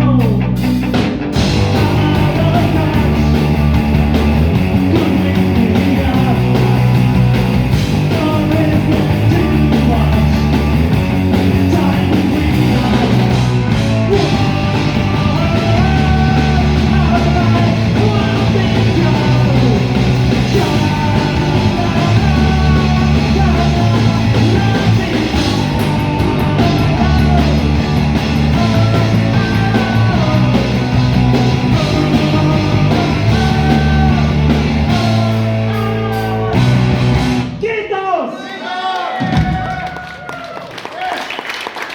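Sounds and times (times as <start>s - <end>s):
live punk rock band: 0.0s - 37.6s.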